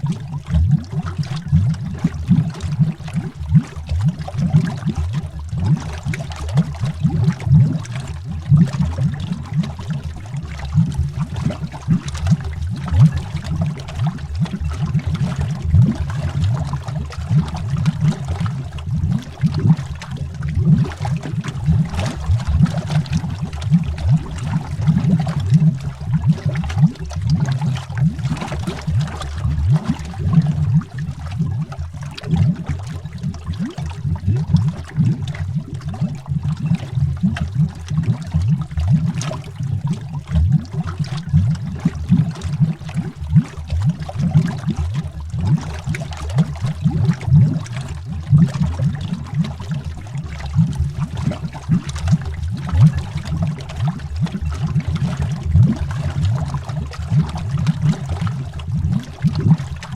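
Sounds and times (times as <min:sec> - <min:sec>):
low underwater rumble: 0:00.0 - 0:59.9
underwater air bubbles: 0:00.0 - 0:59.9.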